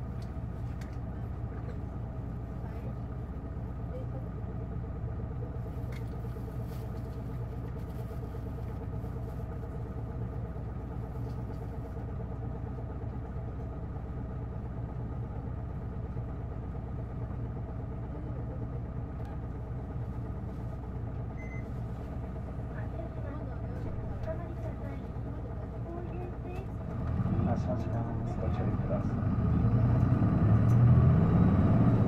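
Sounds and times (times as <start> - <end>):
bus diesel engine idling: 0.0 - 32.0.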